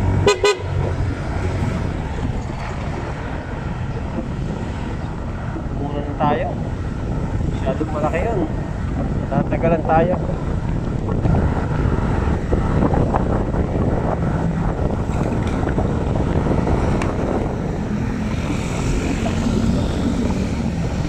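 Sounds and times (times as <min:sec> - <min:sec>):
road noise: 0:00.0 - 0:21.0
wind on microphone: 0:00.0 - 0:21.0.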